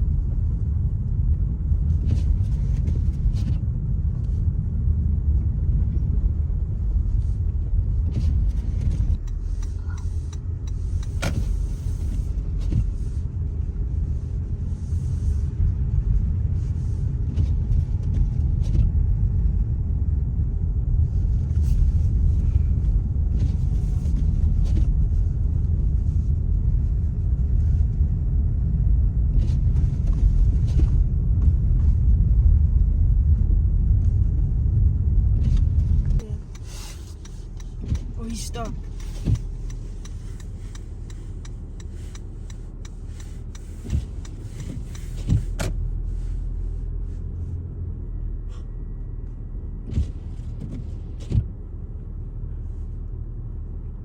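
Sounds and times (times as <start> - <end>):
car driving rumble inside cabin: 0.0 - 54.0.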